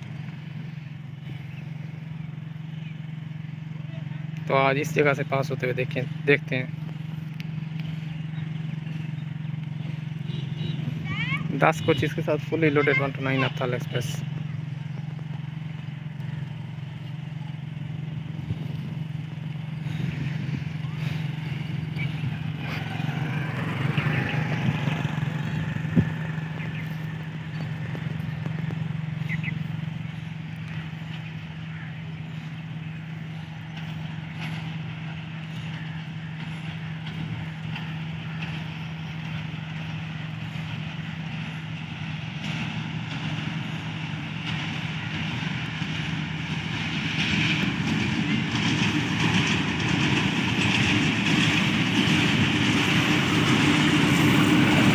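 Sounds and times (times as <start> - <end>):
diesel locomotive engine hum: 0.0 - 54.9.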